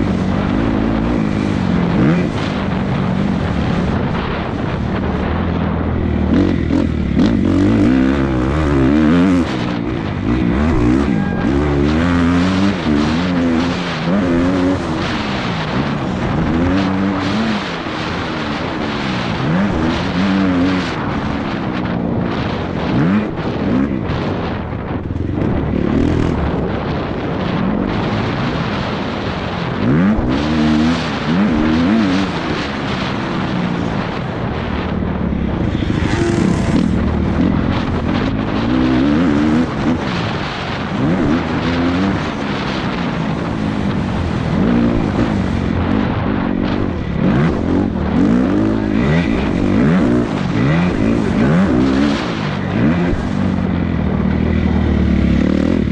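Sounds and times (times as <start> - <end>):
motocross bike engine revving: 0.0 - 55.9
steady rush of noise: 0.0 - 55.9.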